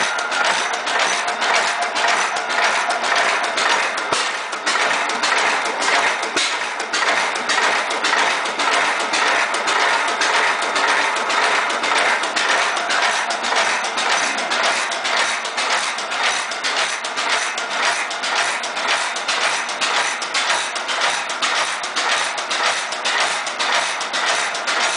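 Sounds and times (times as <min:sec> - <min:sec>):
engine running with rapid clatter: 0:00.0 - 0:24.9.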